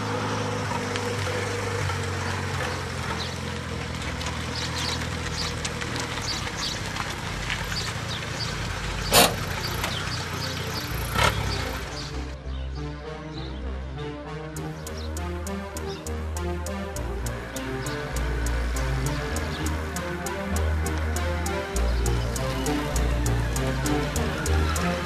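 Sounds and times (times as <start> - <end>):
two-stroke moped engine running: 0.0 - 12.3, 14.6 - 25.0.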